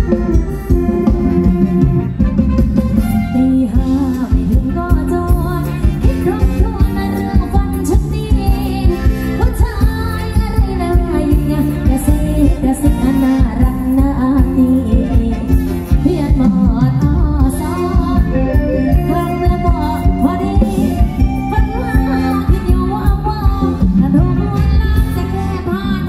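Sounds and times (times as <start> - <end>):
live band dance music: 0.0 - 26.0.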